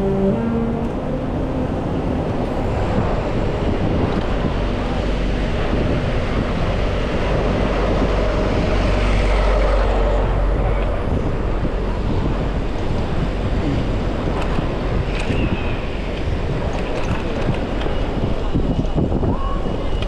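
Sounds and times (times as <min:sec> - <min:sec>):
road traffic: 0:00.0 - 0:20.0
wind rushing over microphone: 0:00.0 - 0:20.0.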